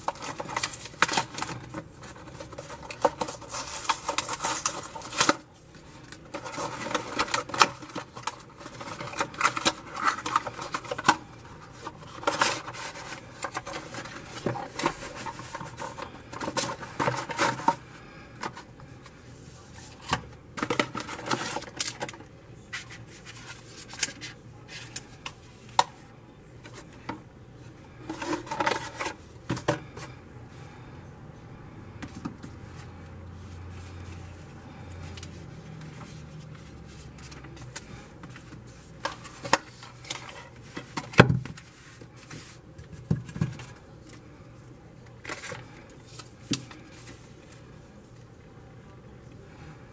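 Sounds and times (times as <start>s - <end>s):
cardboard and paper rustling: 0.0s - 25.9s, 26.6s - 30.2s, 32.0s - 48.0s.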